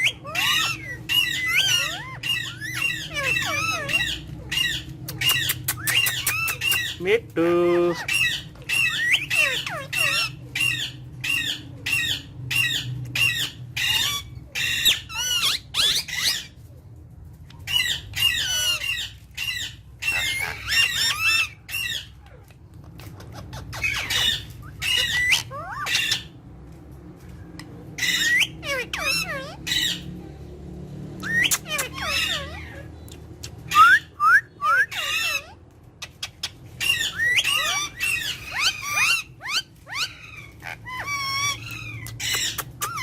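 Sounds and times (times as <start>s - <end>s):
parrots squawking: 0.0s - 16.6s, 17.4s - 26.4s, 27.4s - 30.2s, 30.9s - 43.0s.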